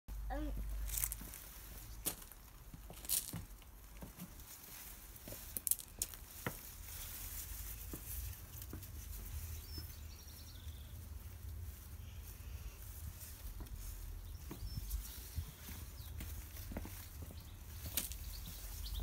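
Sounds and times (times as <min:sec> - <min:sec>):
leaves rustling and crackling: 0:00.2 - 0:19.0.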